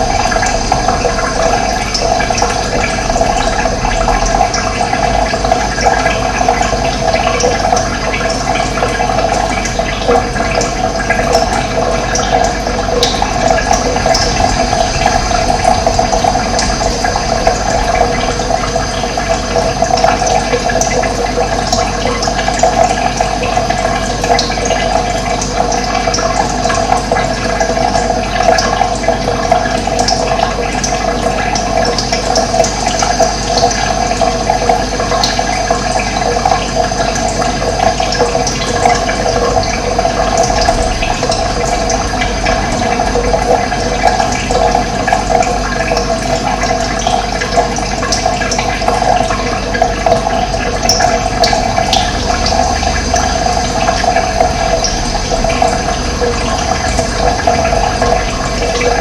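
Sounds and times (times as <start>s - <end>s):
running water flowing: 0.0s - 59.0s.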